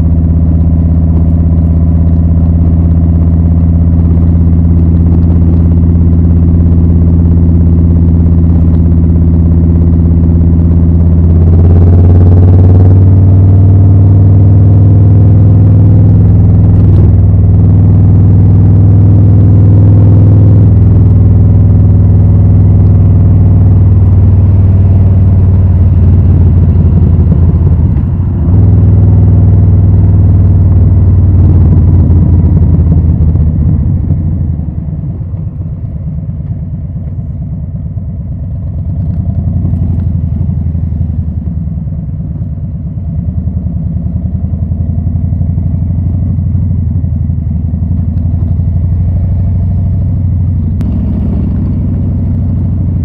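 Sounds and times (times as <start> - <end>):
motorcycle exhaust under load: 0.0 - 53.0.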